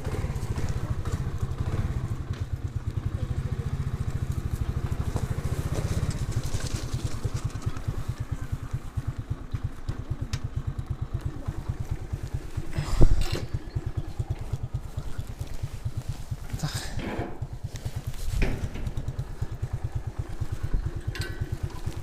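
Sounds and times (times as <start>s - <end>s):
moped engine idling: 0.0s - 22.0s.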